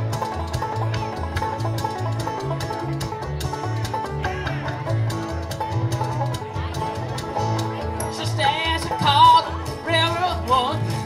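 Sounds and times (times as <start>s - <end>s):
acoustic guitar: 0.0s - 11.0s
picked banjo: 0.0s - 11.0s
upright bass: 0.0s - 11.0s.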